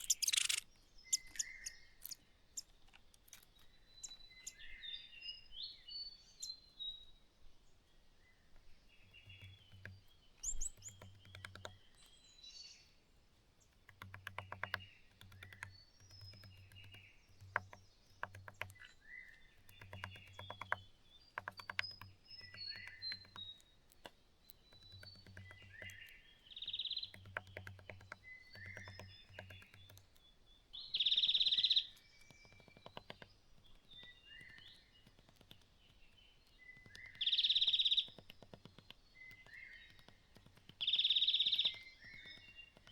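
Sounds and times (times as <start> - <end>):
bird bill tapping clay: 0.0 - 5.1, 8.4 - 42.9
small birds chirping: 0.0 - 42.9.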